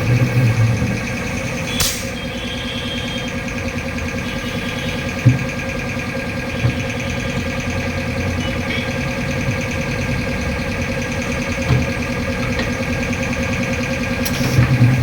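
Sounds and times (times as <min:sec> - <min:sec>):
motor-driven machine pulsing: 0:00.0 - 0:15.0.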